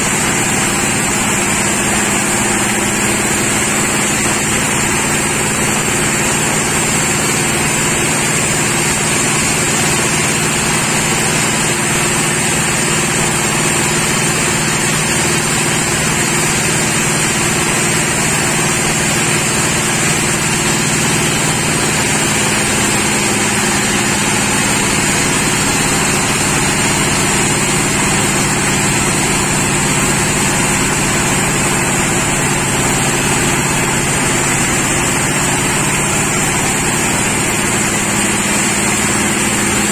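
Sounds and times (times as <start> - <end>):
high machine whine: 0.0 - 39.9
sawmill engine running: 0.0 - 39.9.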